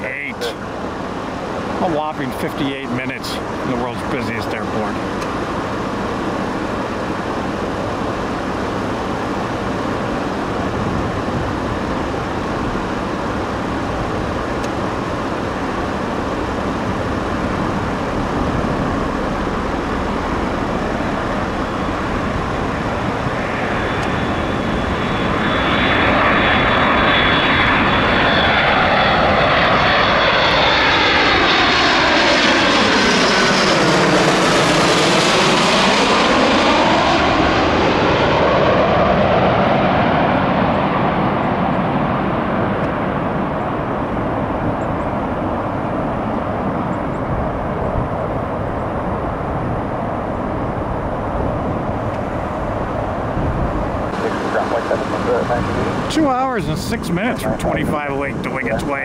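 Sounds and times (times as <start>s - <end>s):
jet airliner passing overhead: 0.0s - 59.0s.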